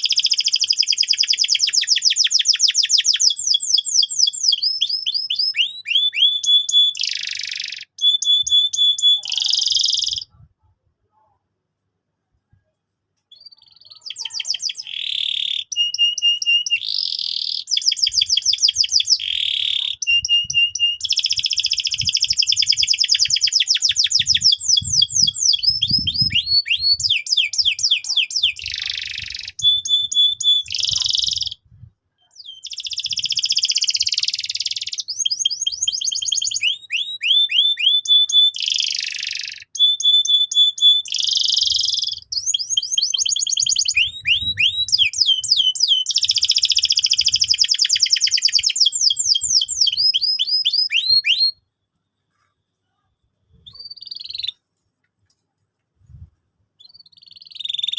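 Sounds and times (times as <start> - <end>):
canary singing trills: 0.0 - 10.5, 13.3 - 51.6, 52.9 - 54.6, 56.8 - 57.9.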